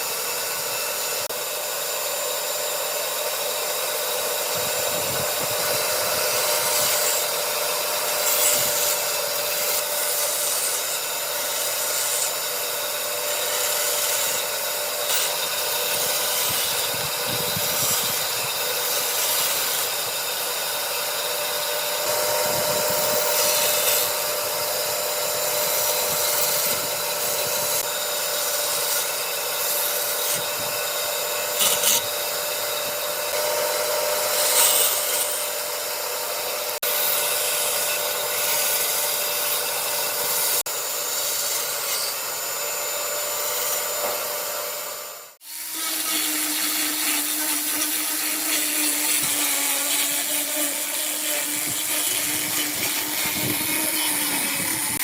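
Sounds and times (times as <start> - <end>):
power tool motor whining: 0.0 - 55.0
tool grinding against wood: 0.0 - 55.0.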